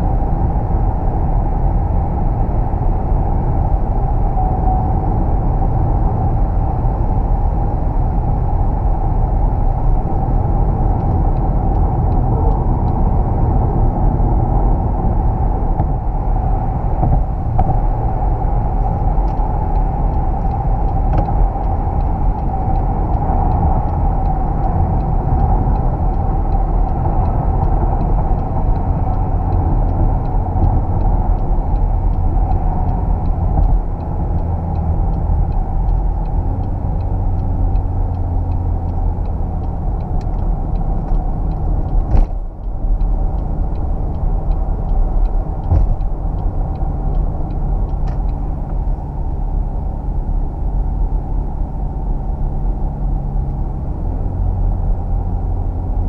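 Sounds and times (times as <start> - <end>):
car interior road rumble: 0.0 - 56.0.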